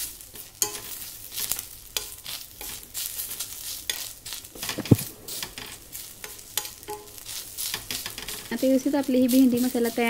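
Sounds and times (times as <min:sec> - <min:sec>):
pan sizzling: 0:00.0 - 0:10.0.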